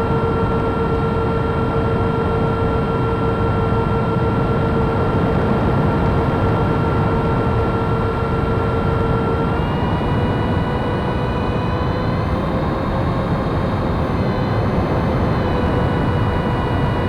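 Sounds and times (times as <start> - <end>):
electric ducted fans whining: 0.0 - 17.0.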